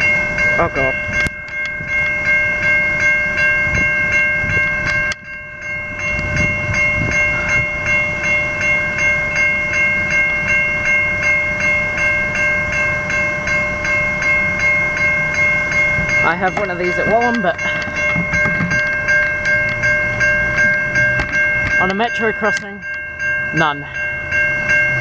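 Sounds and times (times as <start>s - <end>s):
level crossing bell ringing: 0.0s - 25.0s.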